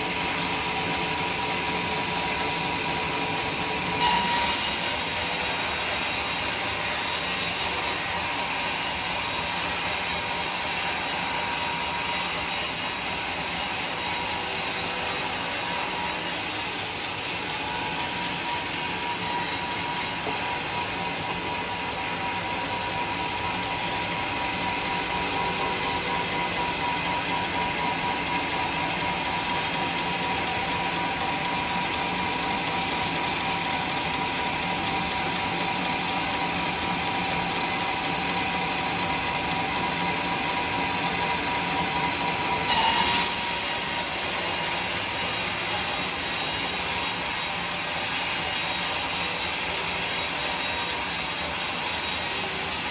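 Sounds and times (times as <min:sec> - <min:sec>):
band saw cutting log: 0:04.0 - 0:52.9.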